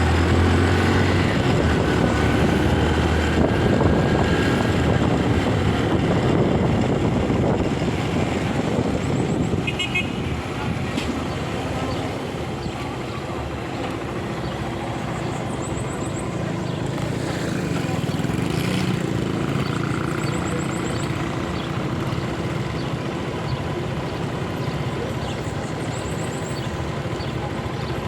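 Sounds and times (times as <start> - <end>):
motorcycle engine running: 0.0 - 28.0
road and wind noise: 0.0 - 28.0.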